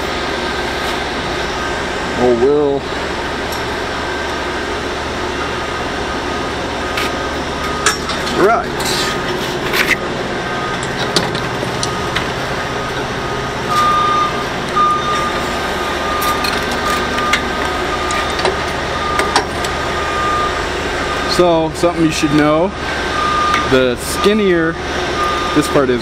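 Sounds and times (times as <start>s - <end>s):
machinery rumbling: 0.0s - 26.0s.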